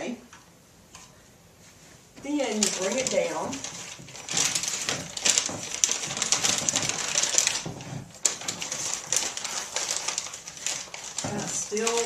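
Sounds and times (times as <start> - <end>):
paper rustling and crinkling: 1.0 - 12.0.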